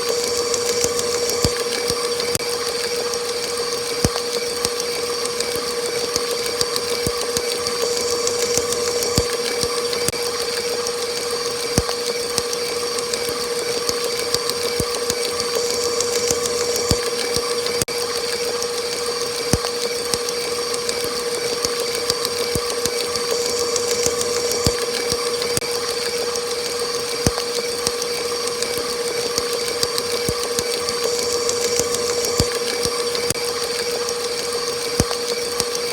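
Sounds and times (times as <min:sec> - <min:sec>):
electric mixer motor whirring: 0:00.0 - 0:35.9.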